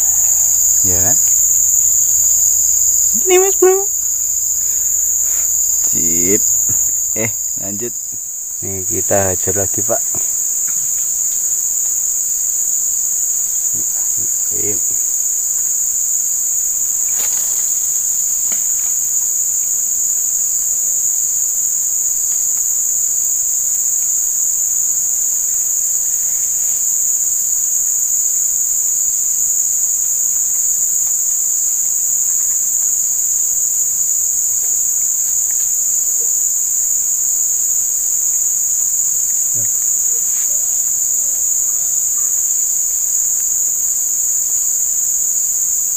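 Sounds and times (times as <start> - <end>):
insect chorus drone: 0.0 - 45.9.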